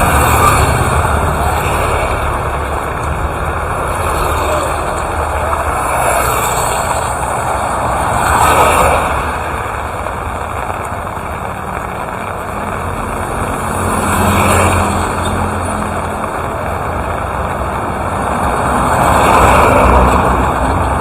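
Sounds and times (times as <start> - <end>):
steady rain hiss: 0.0 - 21.0
vehicles passing on wet road: 0.0 - 21.0.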